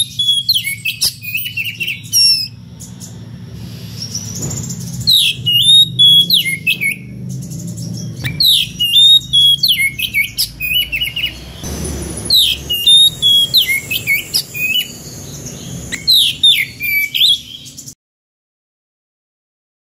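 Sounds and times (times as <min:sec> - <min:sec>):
bird singing whistles and trills: 0:00.0 - 0:18.0.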